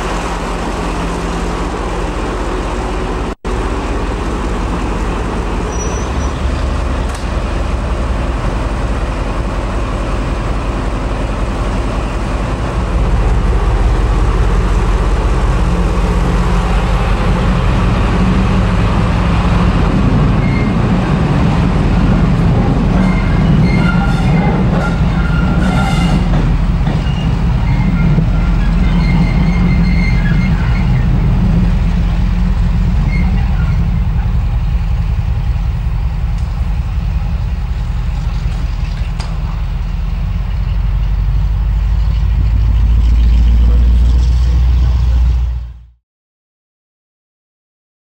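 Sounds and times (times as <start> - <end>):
diesel locomotive idling: 0.0 - 45.9.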